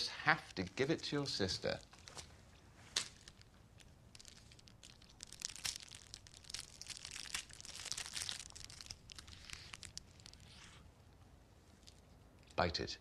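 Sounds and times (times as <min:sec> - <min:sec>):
chocolate wrapper crinkling: 0:00.4 - 0:10.7, 0:11.8 - 0:12.1.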